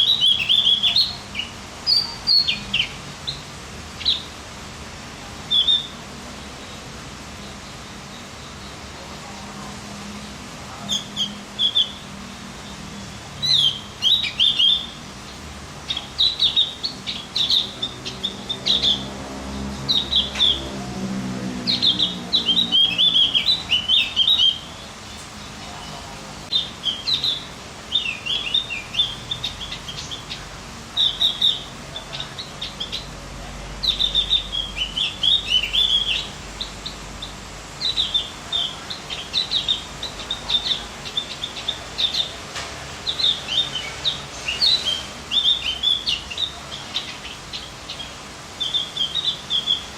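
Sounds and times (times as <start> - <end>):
small songbird singing: 0.0 - 4.4, 5.4 - 49.9.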